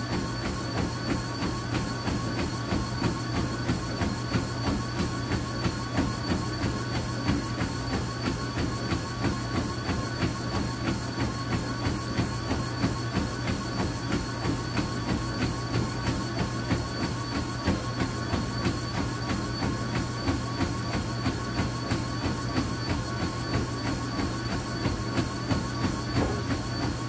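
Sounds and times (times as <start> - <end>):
treadmill motor whine: 0.0 - 27.0
footfalls on treadmill deck: 0.1 - 27.0.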